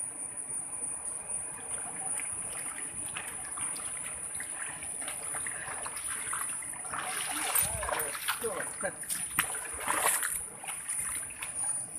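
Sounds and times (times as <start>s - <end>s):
water trickling and splashing: 1.2s - 11.9s.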